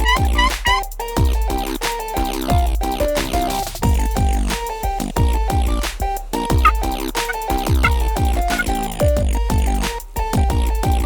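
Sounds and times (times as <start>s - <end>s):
dubstep electronic dance music: 0.0s - 11.0s.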